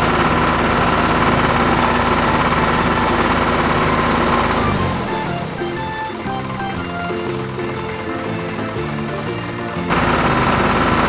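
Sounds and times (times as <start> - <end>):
cartoon heavy vehicle engine: 0.0 - 11.0.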